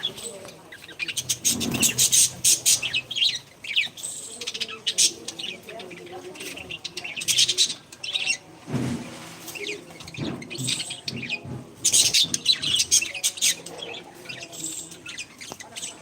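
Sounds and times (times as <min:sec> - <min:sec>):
parrots chirping: 0:00.0 - 0:08.5, 0:09.5 - 0:16.0.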